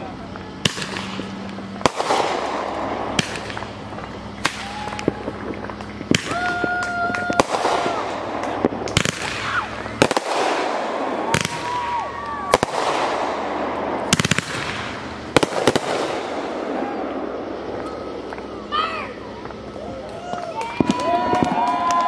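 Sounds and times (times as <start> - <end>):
firework shells bursting: 0.0 - 22.0
fireworks crackling and hissing: 0.0 - 22.0.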